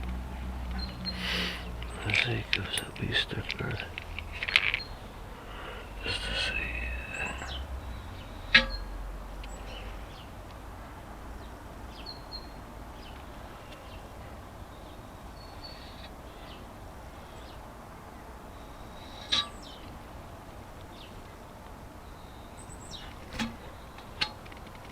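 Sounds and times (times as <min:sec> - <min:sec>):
outdoor background noise: 0:00.0 - 0:24.9
bird chirps: 0:00.7 - 0:10.4, 0:11.4 - 0:17.7, 0:18.5 - 0:20.0, 0:22.0 - 0:24.7.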